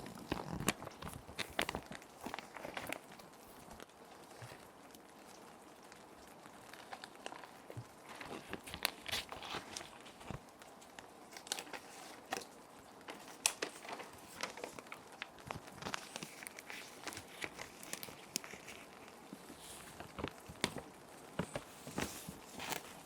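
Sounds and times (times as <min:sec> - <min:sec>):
plastic sheets crinkling: 0:00.0 - 0:23.0
soft rain: 0:00.0 - 0:23.0.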